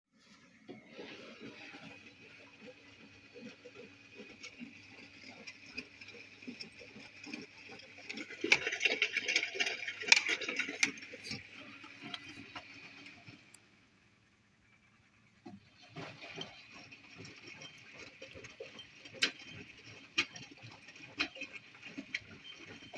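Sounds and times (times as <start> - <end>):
washing machine motor hum: 0.4 - 22.9.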